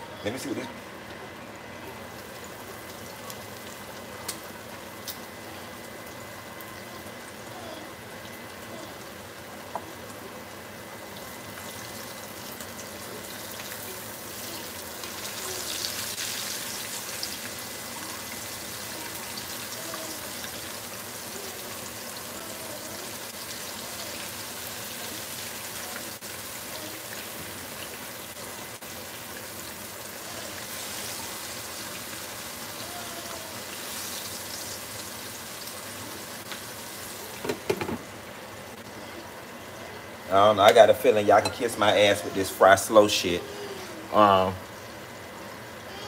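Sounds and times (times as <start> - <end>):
meat sizzling in oil: 2.0 - 40.8.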